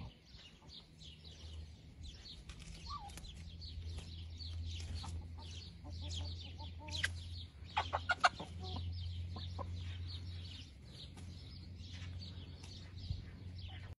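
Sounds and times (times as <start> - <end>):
hens clucking: 0.0 - 14.0
low hum: 0.0 - 14.0
small birds chirping: 0.0 - 14.0.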